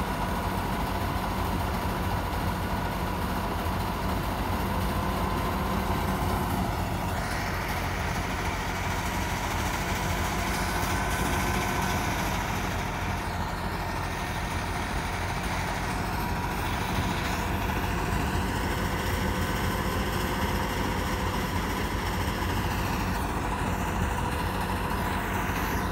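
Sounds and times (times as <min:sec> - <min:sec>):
tractor diesel engine running: 0:00.0 - 0:25.9
thresher whirring: 0:04.4 - 0:25.9.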